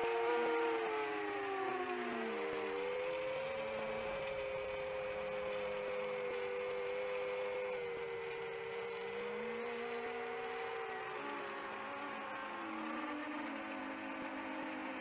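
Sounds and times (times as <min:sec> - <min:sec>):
quadcopter motors whirring: 0:00.0 - 0:15.0.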